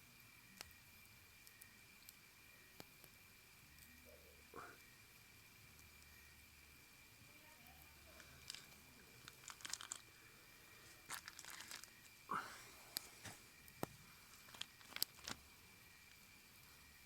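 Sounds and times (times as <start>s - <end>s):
faint crackles and clicks: 0.0s - 17.0s.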